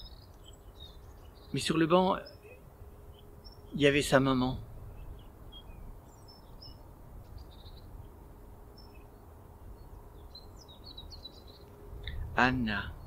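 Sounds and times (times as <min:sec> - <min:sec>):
high bird chirps: 0:00.0 - 0:13.0
low background noise: 0:00.0 - 0:13.0.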